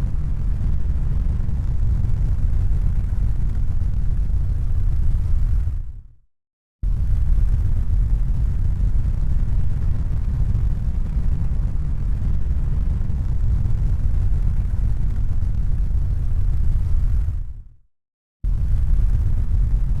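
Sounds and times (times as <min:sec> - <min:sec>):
deep rumbling noise: 0:00.0 - 0:06.0, 0:06.9 - 0:17.6, 0:18.5 - 0:20.0.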